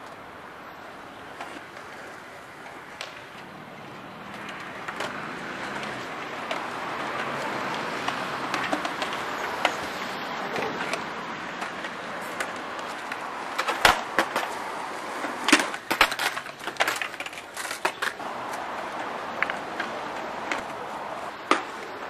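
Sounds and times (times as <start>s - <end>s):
skateboard wheels rolling on concrete: 0.0s - 22.0s
skateboards clacking on ground: 0.0s - 22.0s.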